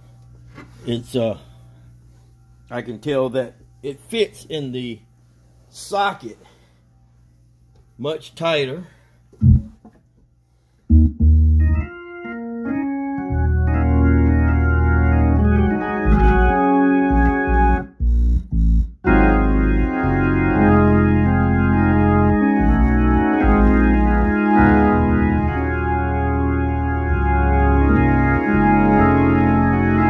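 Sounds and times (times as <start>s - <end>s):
organ through rotating speaker: 0.0s - 10.0s, 10.9s - 30.0s.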